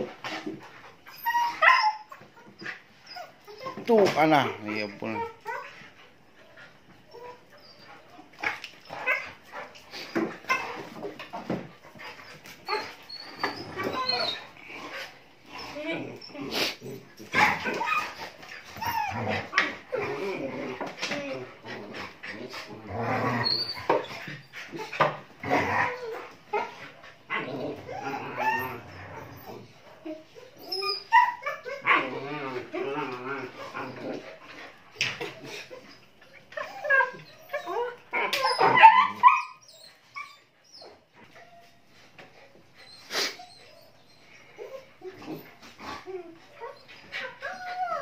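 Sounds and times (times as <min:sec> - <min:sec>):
puppies yipping and whining: 0:00.0 - 0:48.0.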